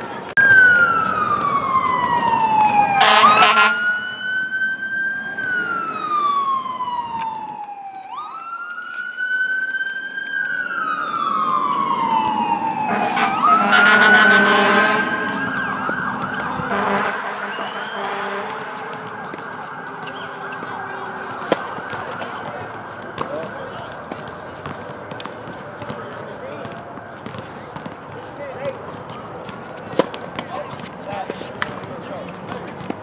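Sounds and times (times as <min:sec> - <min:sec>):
siren wailing: 0:00.4 - 0:27.9.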